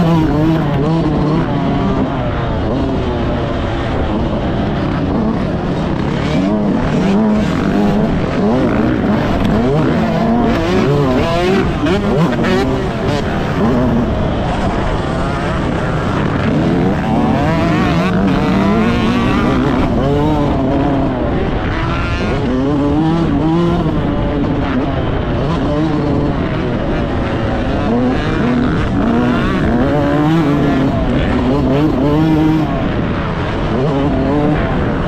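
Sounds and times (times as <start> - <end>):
two-stroke motorbike engine revving: 0.0 - 35.0.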